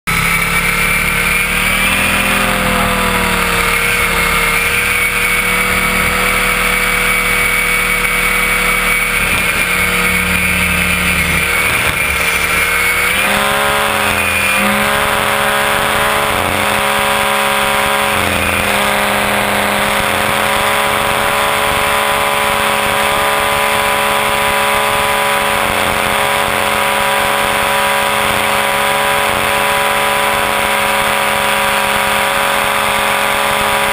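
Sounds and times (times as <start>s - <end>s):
rc helicopter whine: 0.1s - 33.9s.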